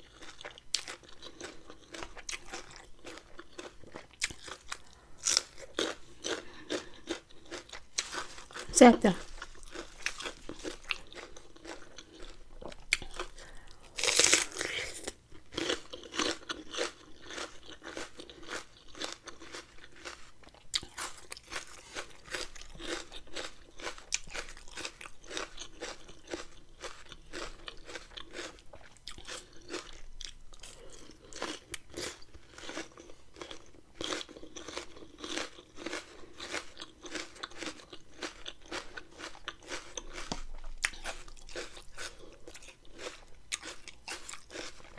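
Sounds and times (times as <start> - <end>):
person chewing and crunching food: 0.0 - 44.9.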